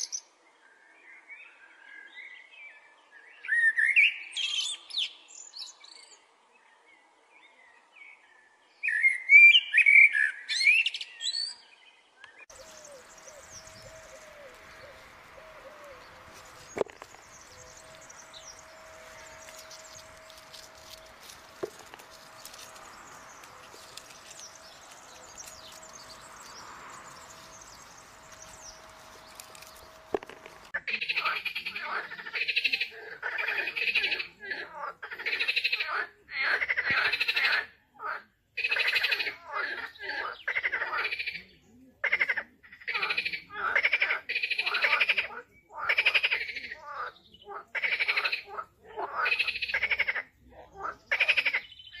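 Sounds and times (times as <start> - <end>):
small birds chirping: 3.4 - 37.6, 38.6 - 52.0.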